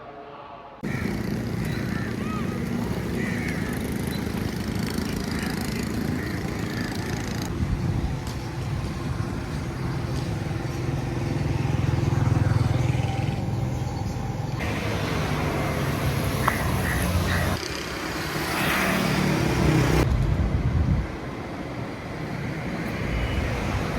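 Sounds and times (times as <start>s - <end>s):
vehicle engines running: 0.8s - 22.1s.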